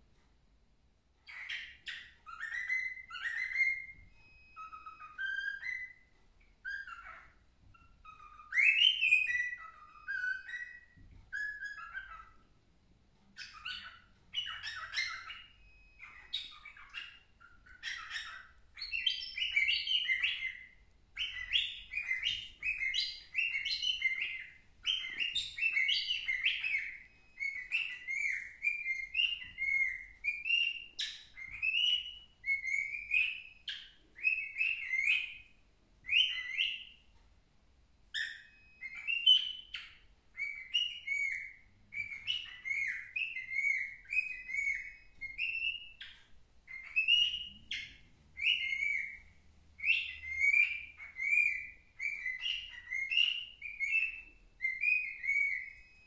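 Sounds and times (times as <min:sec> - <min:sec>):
cockatiel chirping and whistling: 0:01.2 - 0:12.6, 0:13.2 - 0:37.2, 0:38.1 - 0:56.0.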